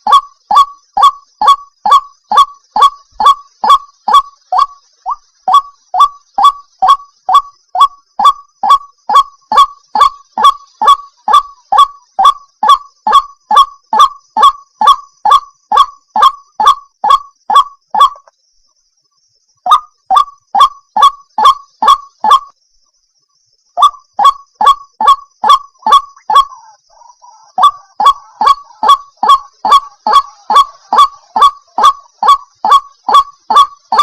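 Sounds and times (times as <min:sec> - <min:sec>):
bird calling sharp notes: 0:00.0 - 0:18.3, 0:23.8 - 0:34.0.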